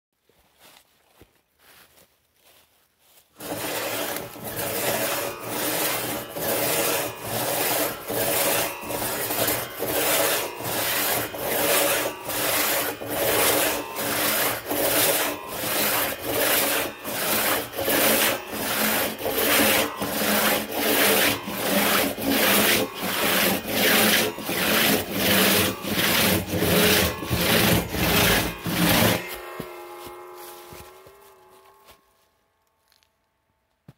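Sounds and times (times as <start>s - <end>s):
crosscut saw rasping: 3.4s - 32.2s
saw blade ringing: 3.4s - 33.1s.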